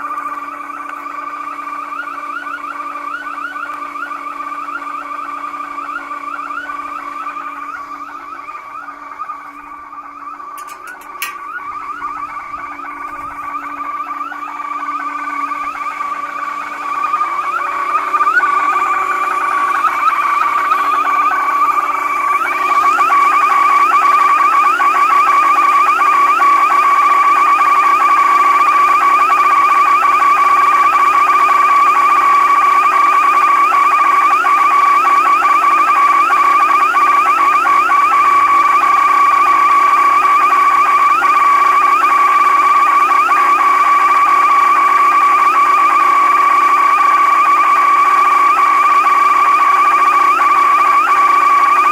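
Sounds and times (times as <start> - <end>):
car alarm siren: 0.0 - 51.9.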